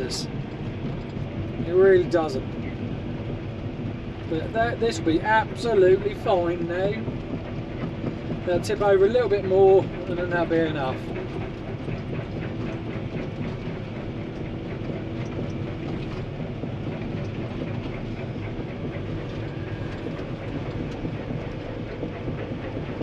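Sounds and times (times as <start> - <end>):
excavator diesel engine running: 0.0 - 23.0
tracks rattling and clanking: 0.0 - 23.0.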